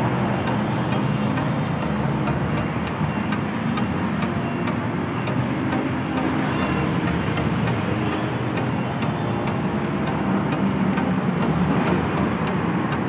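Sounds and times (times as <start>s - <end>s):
faint regular ticking: 0.0s - 13.0s
street traffic: 0.0s - 13.0s.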